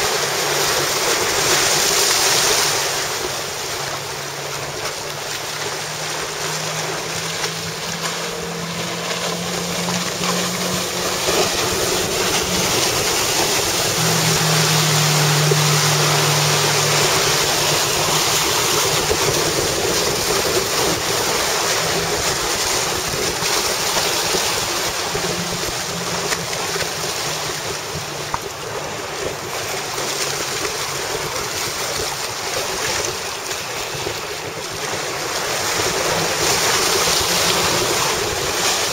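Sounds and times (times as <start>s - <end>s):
outboard motor humming: 0.0s - 38.9s
water and waves rushing: 0.0s - 38.9s
wind buffeting microphone: 2.8s - 38.9s.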